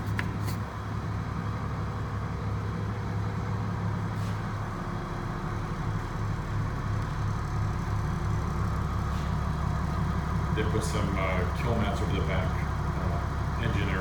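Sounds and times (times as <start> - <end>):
bus diesel engine idling: 0.0 - 14.0.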